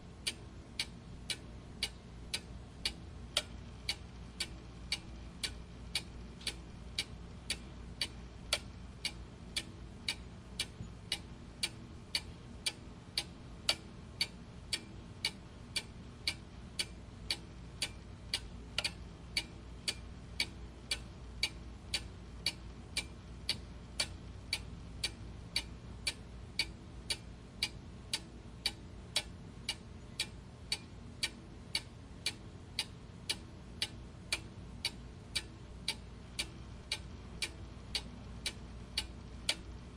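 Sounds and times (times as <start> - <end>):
faint low hum: 0.0 - 39.9
clock ticking: 0.2 - 39.9.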